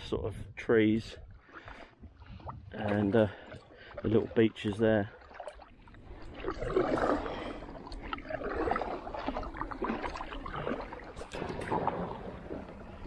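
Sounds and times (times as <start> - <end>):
water sloshing around hull: 0.0 - 13.0
small waves lapping: 1.1 - 13.0
paddle strokes in water: 1.2 - 13.0.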